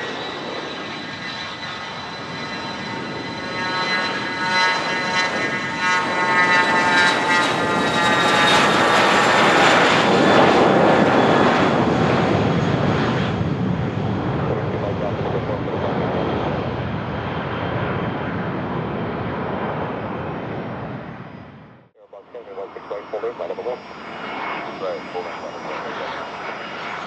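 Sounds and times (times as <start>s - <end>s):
jet engines whining and roaring: 0.0s - 27.0s.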